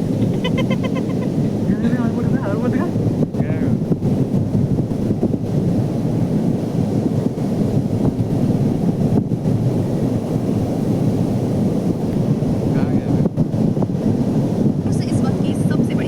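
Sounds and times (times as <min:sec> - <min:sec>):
surf rumbling on beach: 0:00.0 - 0:16.0
wind buffeting microphone: 0:00.0 - 0:16.0.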